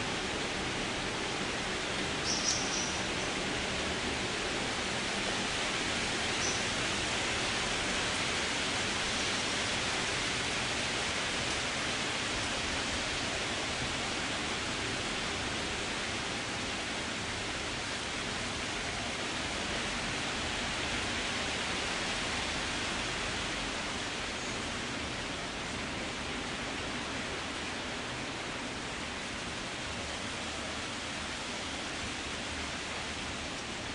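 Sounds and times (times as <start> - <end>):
wind through trees: 0.0 - 33.9.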